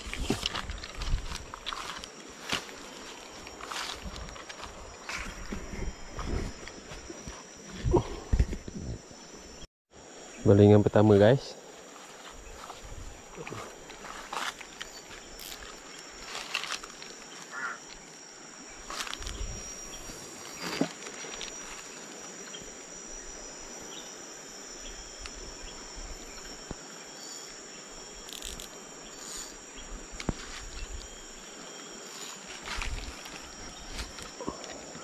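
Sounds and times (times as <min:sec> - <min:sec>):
insects shrill drone: 0:00.0 - 0:35.0.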